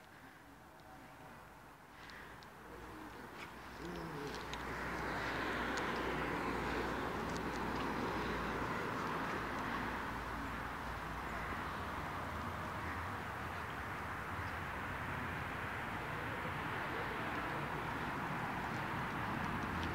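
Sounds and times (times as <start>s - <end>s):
passing vehicles rumbling: 2.0s - 19.9s.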